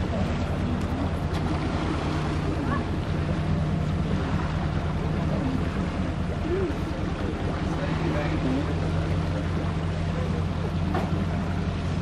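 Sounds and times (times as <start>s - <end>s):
boat engine humming: 0.0s - 12.0s
water noise: 0.0s - 12.0s
wind: 0.0s - 12.0s.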